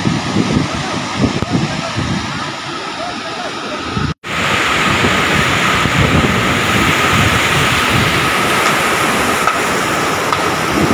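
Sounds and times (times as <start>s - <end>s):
river rushing over rocks: 0.0s - 10.9s
wind buffeting microphone: 0.0s - 10.9s.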